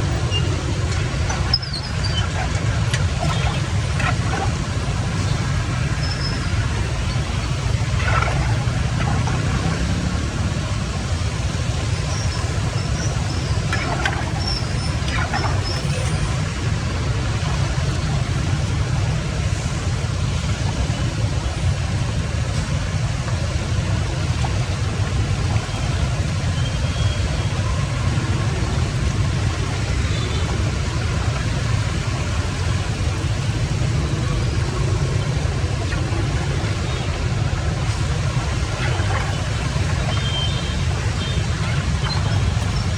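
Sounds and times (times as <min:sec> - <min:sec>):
rushing water rumble: 0:00.0 - 0:42.9.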